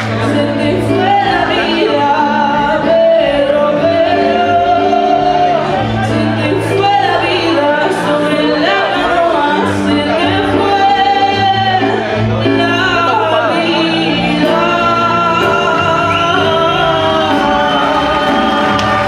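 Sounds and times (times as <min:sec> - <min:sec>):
electric keyboard: 0:00.0 - 0:19.0
woman singing folk song: 0:00.2 - 0:18.8.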